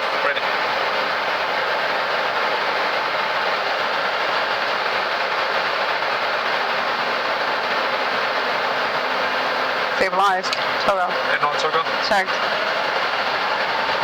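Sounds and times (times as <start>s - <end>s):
jet engines spooling up: 0.0s - 14.0s.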